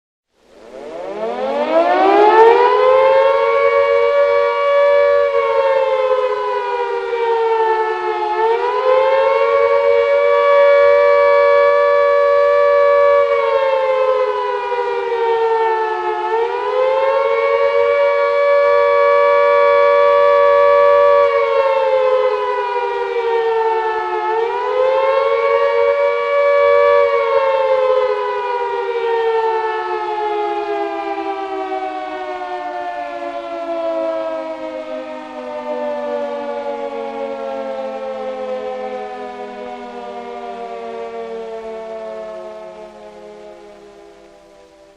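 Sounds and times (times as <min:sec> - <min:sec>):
air-raid siren wailing: 0:00.3 - 0:44.9.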